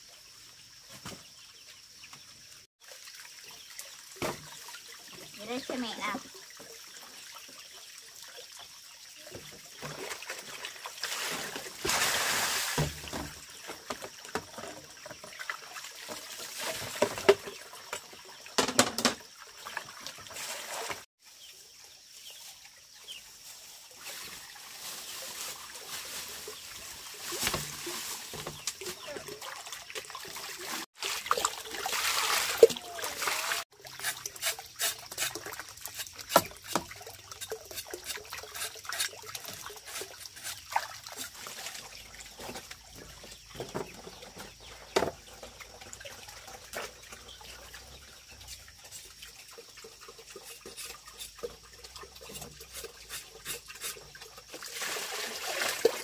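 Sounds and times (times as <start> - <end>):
water pouring and splashing: 0.0 - 56.0
water trickling: 0.2 - 56.0.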